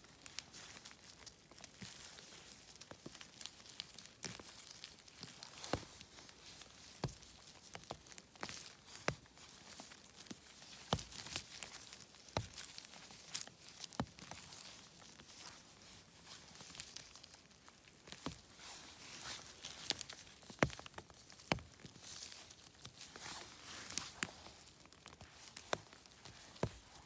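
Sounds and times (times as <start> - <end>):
leaf litter and fabric rustling: 0.0 - 27.0
mushroom stems snapping: 0.2 - 15.6, 16.5 - 18.4, 19.4 - 27.0.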